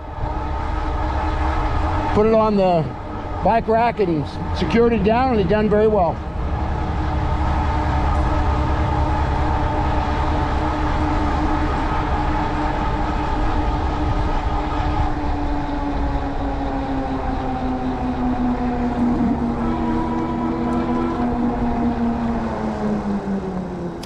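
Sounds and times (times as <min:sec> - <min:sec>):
low wind rumble: 0:00.0 - 0:24.0
electric bike motor whine: 0:04.3 - 0:24.0.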